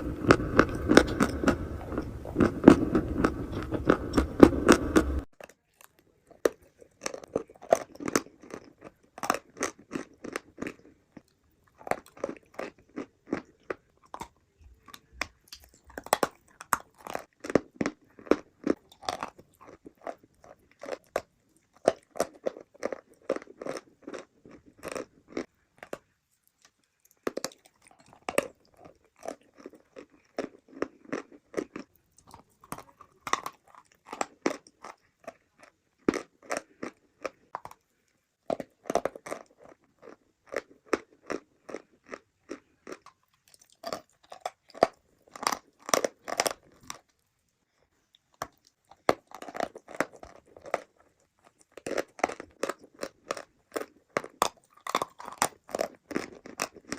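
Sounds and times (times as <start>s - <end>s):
crisp chewing crunches: 0.0s - 56.9s.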